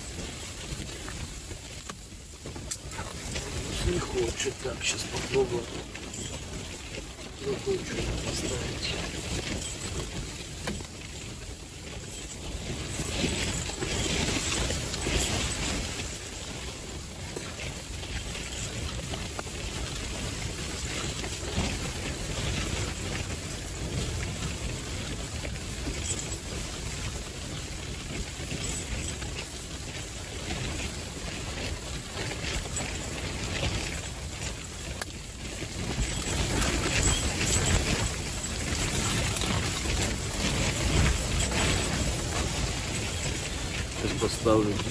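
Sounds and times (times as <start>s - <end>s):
gusting wind buffeting microphone: 0.0s - 44.9s.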